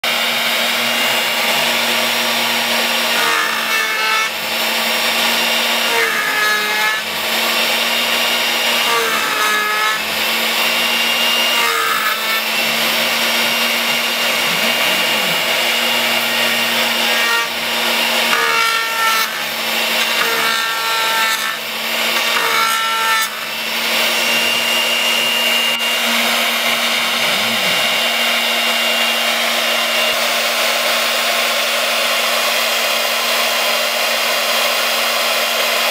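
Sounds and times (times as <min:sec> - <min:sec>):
router bit cutting wood: 0:00.0 - 0:35.9
axis motor whines: 0:00.1 - 0:33.7.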